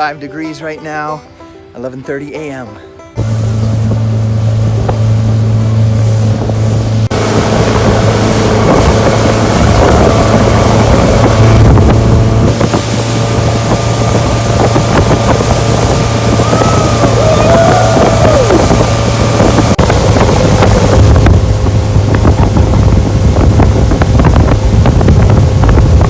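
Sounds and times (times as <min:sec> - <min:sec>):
motorboat engine running: 0:03.2 - 0:26.0
wind buffeting microphone: 0:03.2 - 0:26.0.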